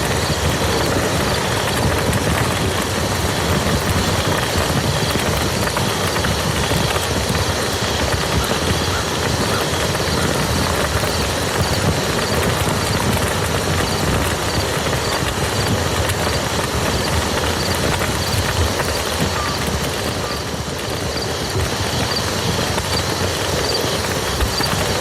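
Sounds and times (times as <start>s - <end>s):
heavy rain on a field: 0.0s - 25.0s.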